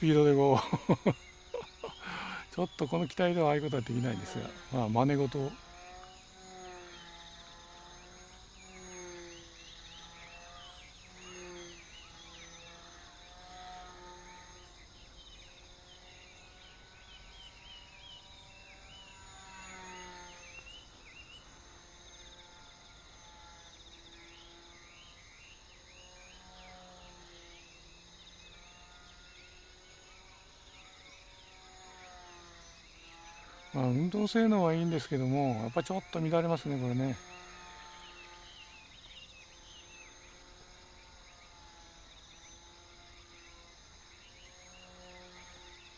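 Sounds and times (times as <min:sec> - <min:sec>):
model plane motor buzzing: 0:00.0 - 0:45.9.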